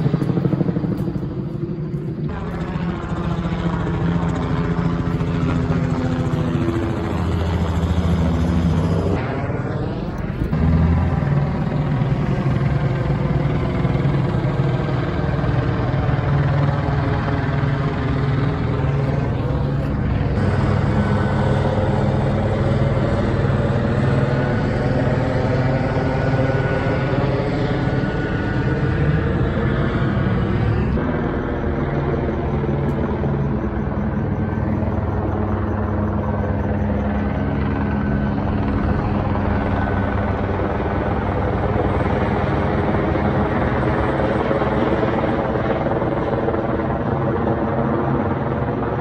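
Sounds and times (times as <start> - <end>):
helicopter flying overhead: 0.0 - 49.0.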